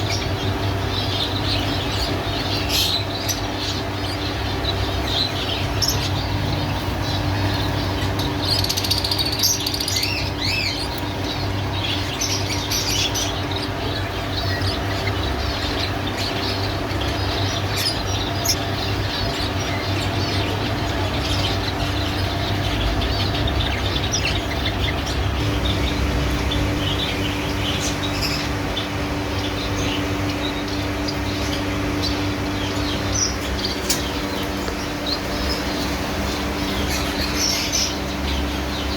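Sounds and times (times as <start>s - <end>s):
finches chirping: 0.0s - 38.9s
steady low hum: 0.0s - 38.9s.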